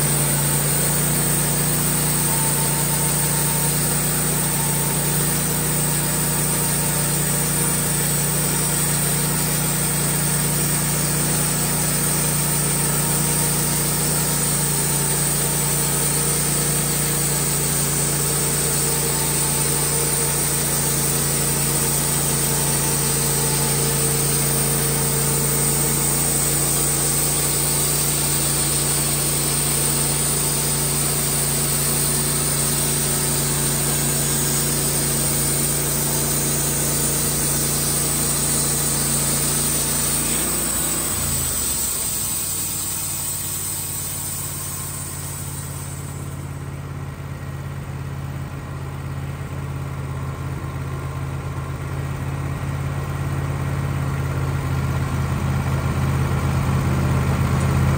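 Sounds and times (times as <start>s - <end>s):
band saw cutting log: 0.0s - 46.6s
sawmill engine running: 0.0s - 57.9s.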